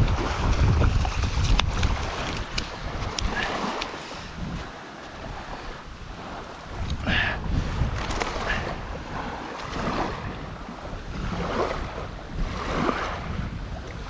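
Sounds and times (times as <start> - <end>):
small surf waves washing: 0.0 - 14.0
wind buffeting microphone: 0.0 - 14.0.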